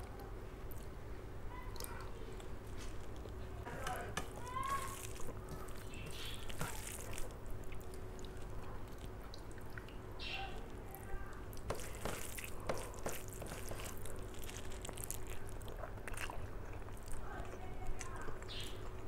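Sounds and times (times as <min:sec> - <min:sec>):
hand squishing wet food: 0:00.0 - 0:19.0.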